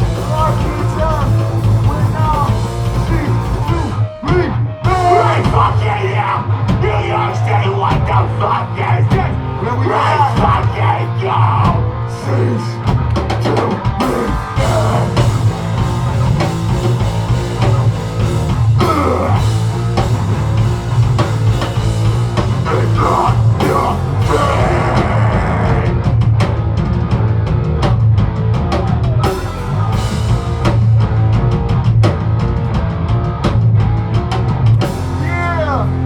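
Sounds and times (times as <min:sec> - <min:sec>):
bass guitar: 0:00.0 - 0:36.0
distorted electric guitars: 0:00.0 - 0:36.0
pounding drum kit: 0:00.0 - 0:36.0.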